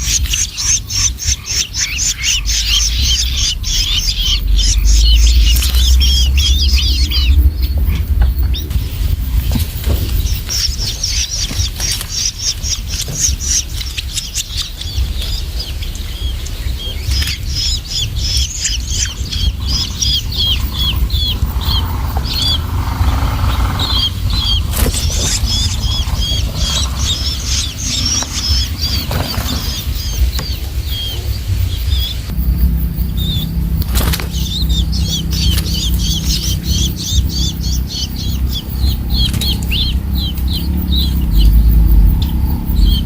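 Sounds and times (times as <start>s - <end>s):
bird chicks chirping: 0.0s - 43.0s
steady low rumble: 0.0s - 43.0s.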